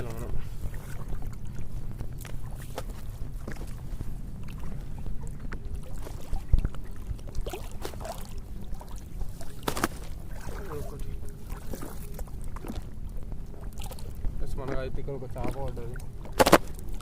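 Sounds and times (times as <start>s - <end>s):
water sloshing: 0.0s - 17.0s
wind rumble on microphone: 0.0s - 17.0s.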